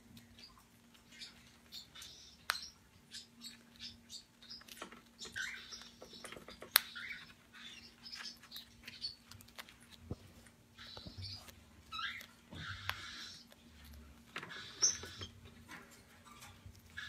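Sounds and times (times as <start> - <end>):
birds chirping softly: 0.0 - 17.0.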